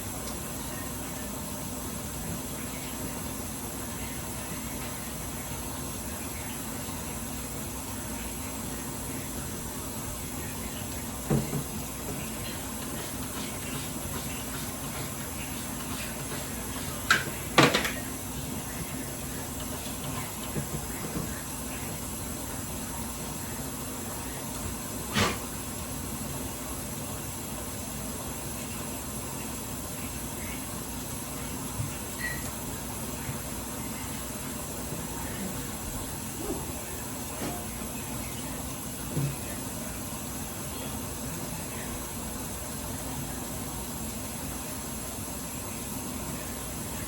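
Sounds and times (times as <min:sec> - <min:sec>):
steady background hum: 0:00.0 - 0:47.0.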